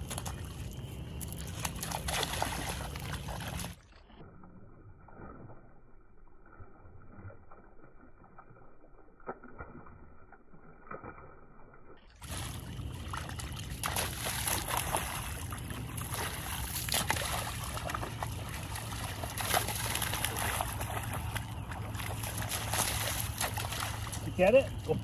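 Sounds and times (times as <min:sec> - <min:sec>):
dog splashing in shallow water: 0:00.0 - 0:25.0.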